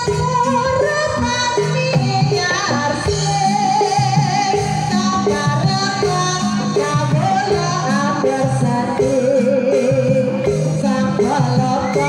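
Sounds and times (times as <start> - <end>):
bending melody line: 0.0 - 12.0
hand drums: 0.0 - 12.0.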